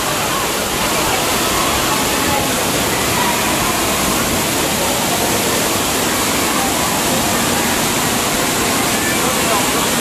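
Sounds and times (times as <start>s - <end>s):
water rushing down a flume: 0.0s - 10.0s.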